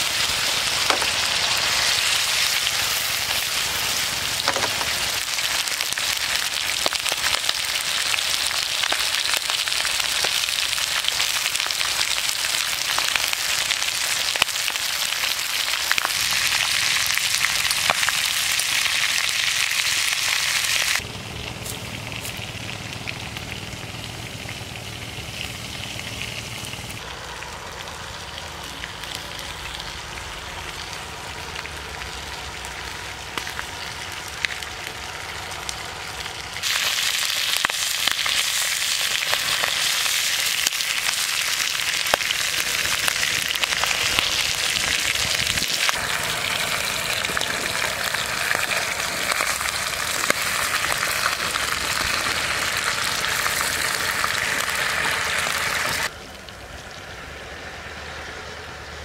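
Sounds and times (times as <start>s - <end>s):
fish frying in hot oil: 0.0s - 58.3s.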